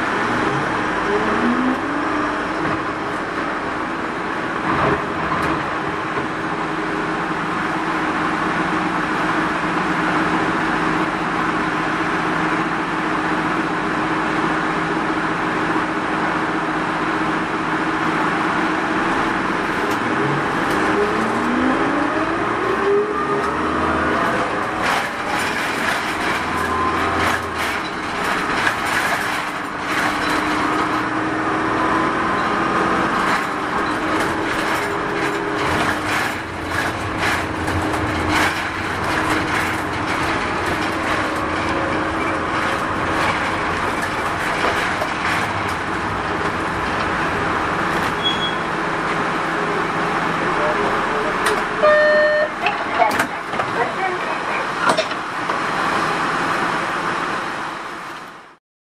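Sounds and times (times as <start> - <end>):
diesel engine hum: 0.0 - 58.6
road noise: 0.0 - 58.6.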